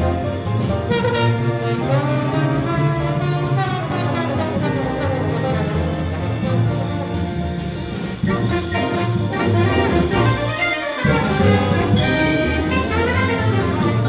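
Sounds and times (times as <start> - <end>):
jazz ensemble playing: 0.0 - 14.0.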